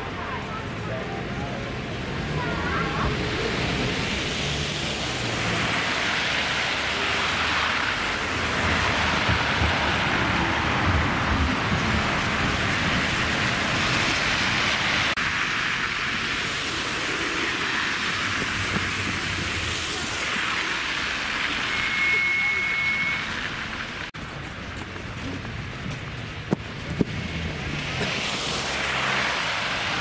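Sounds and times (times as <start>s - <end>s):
traffic hiss on slushy roads: 0.0s - 30.0s
tram rumbling past: 0.0s - 30.0s.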